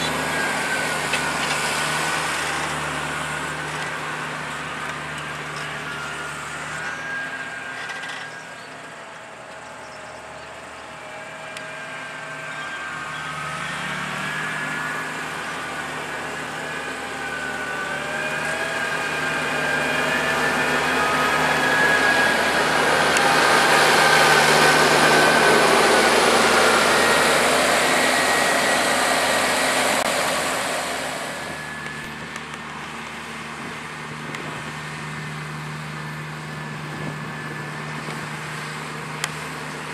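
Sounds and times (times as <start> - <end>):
tractor engine whining: 0.0 - 39.9.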